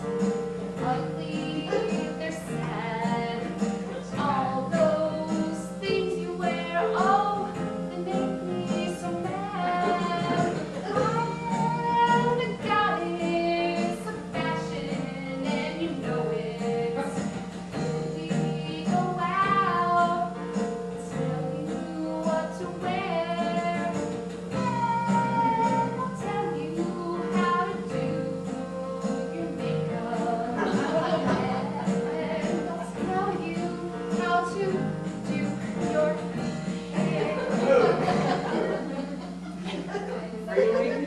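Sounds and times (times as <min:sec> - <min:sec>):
instrumental accompaniment of held chords: 0:00.0 - 0:41.0
woman singing: 0:00.8 - 0:37.9.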